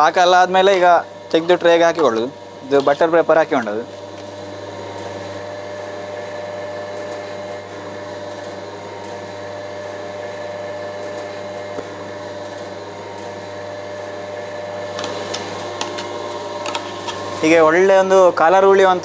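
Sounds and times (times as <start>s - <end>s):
machine motor whirring: 0.0s - 19.0s.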